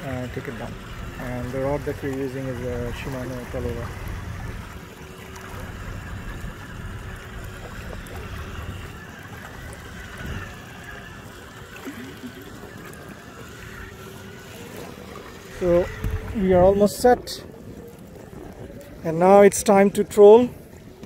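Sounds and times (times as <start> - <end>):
outboard motor running: 0.0 - 21.0
water washing past boat: 0.0 - 21.0.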